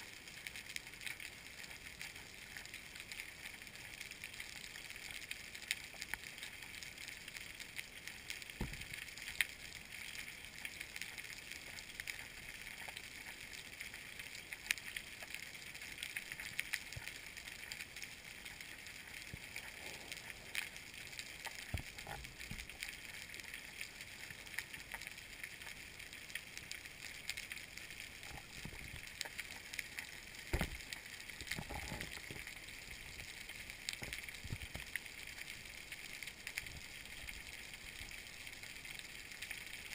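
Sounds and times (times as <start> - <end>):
underwater crackle of clicks: 0.0 - 39.9.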